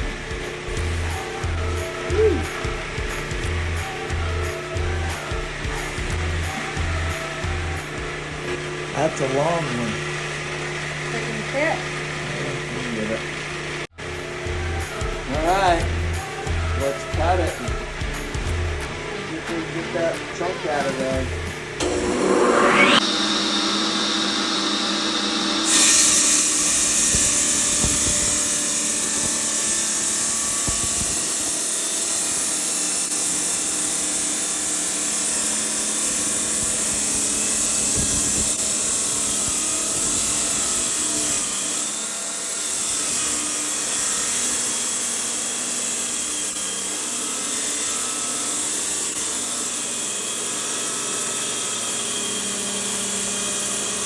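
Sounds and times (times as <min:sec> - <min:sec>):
power saw cutting stone: 0:00.0 - 0:54.0.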